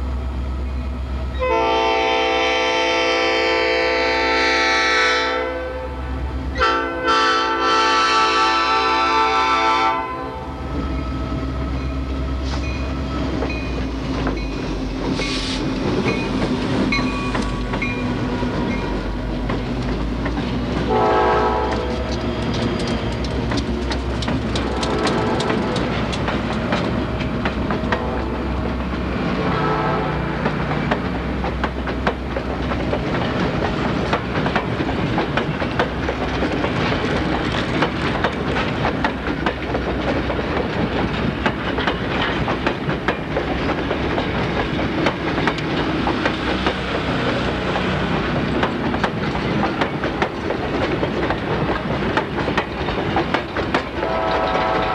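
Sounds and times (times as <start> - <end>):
diesel locomotive passing: 0.0 - 54.9
train wheels clickety-clack: 10.8 - 54.9.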